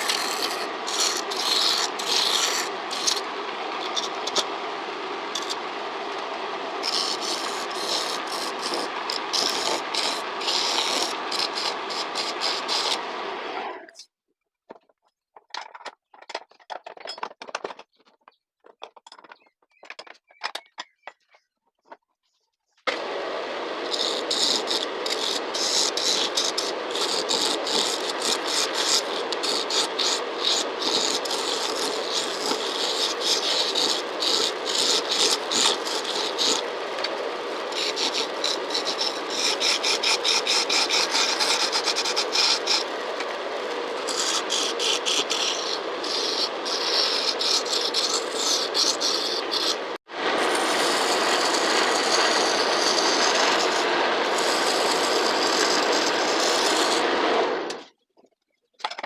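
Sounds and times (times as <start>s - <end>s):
wood lathe cutting wood: 0.0s - 13.9s, 22.9s - 57.8s.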